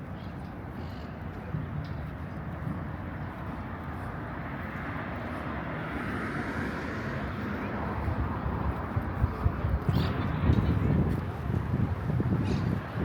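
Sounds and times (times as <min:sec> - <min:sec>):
vehicle traffic rumble: 0:00.0 - 0:13.0.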